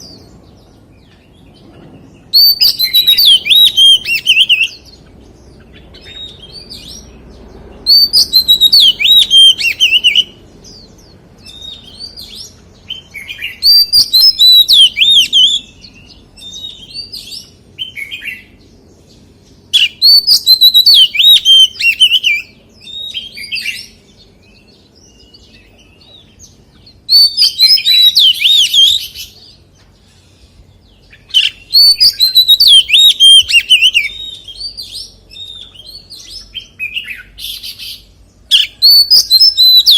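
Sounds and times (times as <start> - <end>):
bird singing whistled phrases: 2.2 - 5.0, 7.8 - 18.5, 19.7 - 29.4, 30.8 - 39.9.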